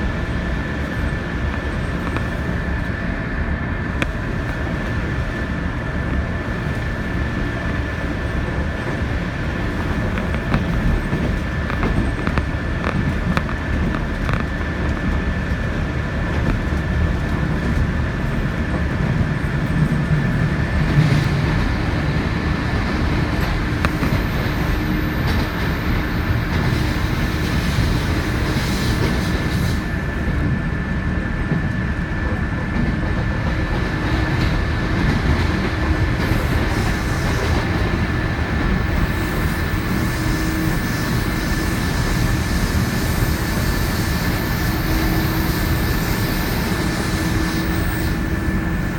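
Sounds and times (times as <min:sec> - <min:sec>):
train wheels clacking on rails: 0:03.9 - 0:48.9.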